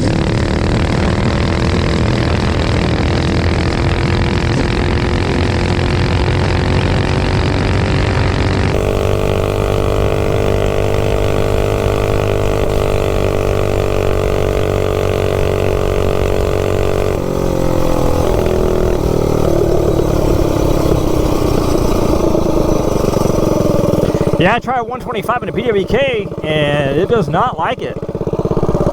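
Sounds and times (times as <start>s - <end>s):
small engine revving high: 0.0s - 28.9s.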